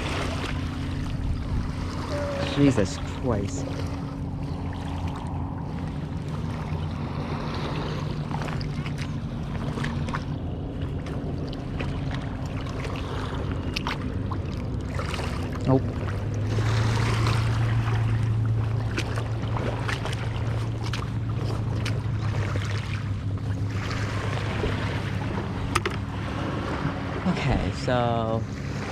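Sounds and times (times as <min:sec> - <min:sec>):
low mechanical drone: 0:00.0 - 0:28.9
water sloshing and splashing: 0:00.0 - 0:28.9.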